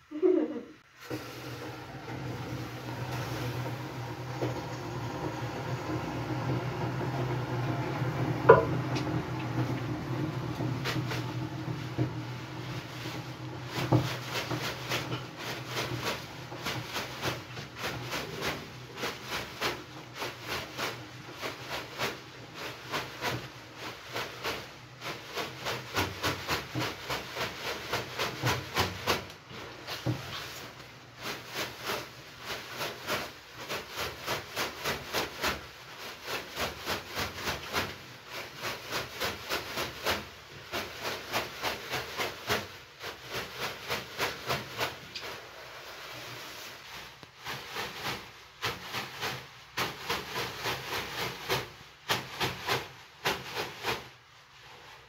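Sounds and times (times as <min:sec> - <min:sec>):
wet leafy brooms swishing and patting: 0:01.0 - 0:55.0.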